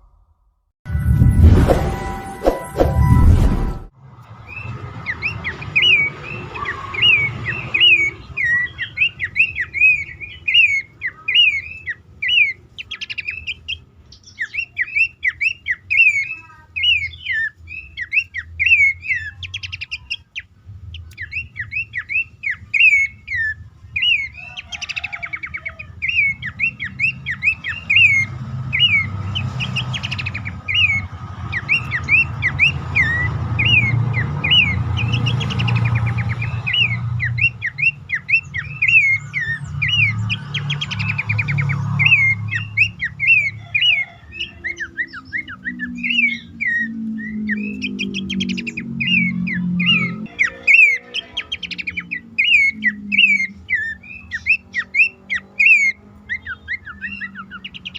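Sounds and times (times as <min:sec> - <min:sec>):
bird whistling calls: 0:04.5 - 0:20.2, 0:21.2 - 0:57.9.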